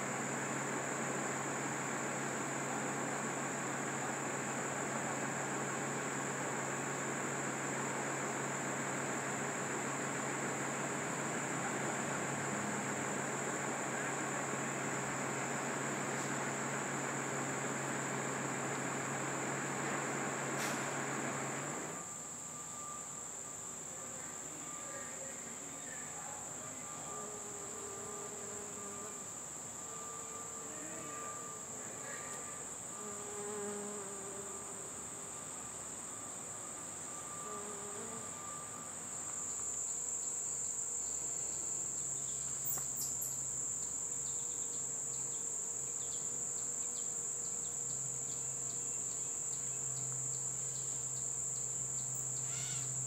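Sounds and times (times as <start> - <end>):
insects singing: 0.0 - 53.0.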